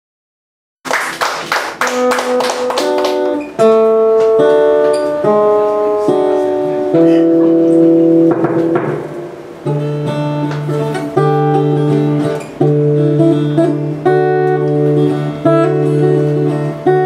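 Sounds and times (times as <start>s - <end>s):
acoustic guitars playing: 0.9s - 17.0s.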